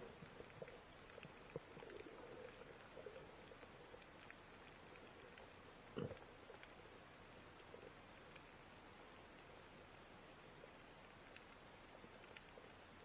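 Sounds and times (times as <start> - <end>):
underwater crackle of tiny clicks: 0.0 - 13.0.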